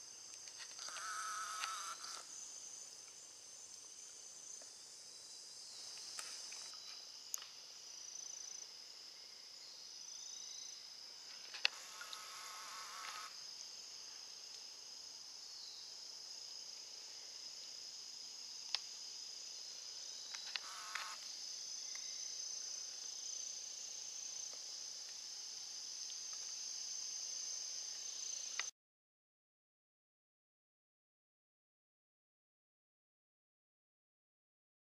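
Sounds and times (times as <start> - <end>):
insects trilling: 0.0 - 28.7.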